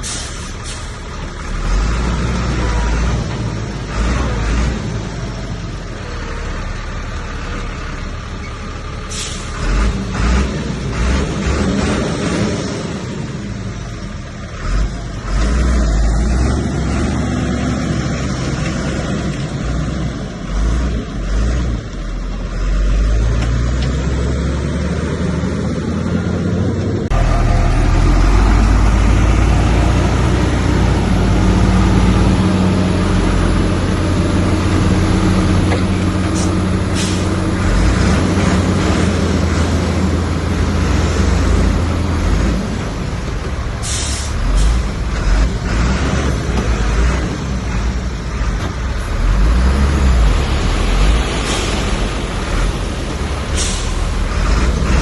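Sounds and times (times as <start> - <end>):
diesel machinery rumbling: 0.0 - 55.0.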